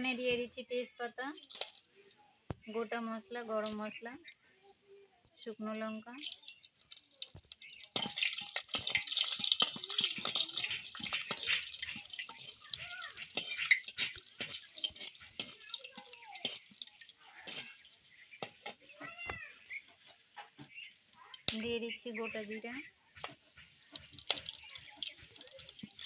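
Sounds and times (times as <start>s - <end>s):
spices sizzling and crackling in oil: 0.5s - 2.0s, 2.9s - 4.3s, 5.7s - 26.0s.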